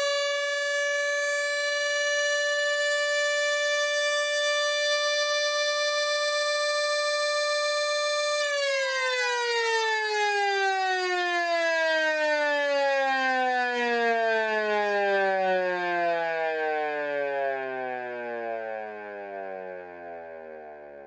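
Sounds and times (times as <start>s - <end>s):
mechanical sirens wailing: 0.0s - 20.6s.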